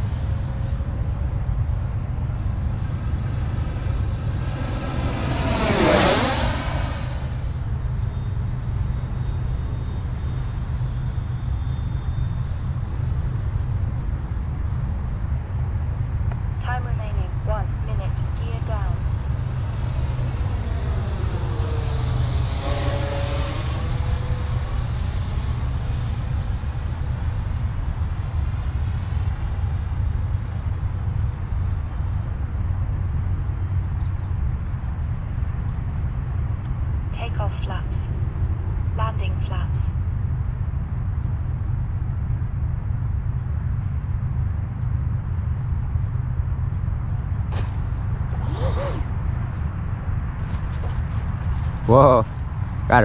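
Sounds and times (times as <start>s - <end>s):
model jet fan whine: 0.0s - 16.6s, 17.3s - 37.1s, 40.0s - 53.0s
wind rumble on microphone: 0.0s - 53.0s.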